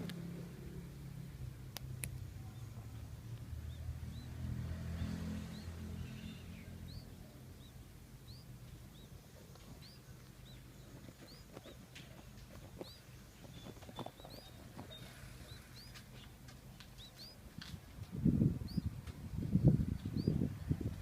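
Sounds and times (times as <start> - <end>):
nestling birds chirping: 0.0 - 21.0.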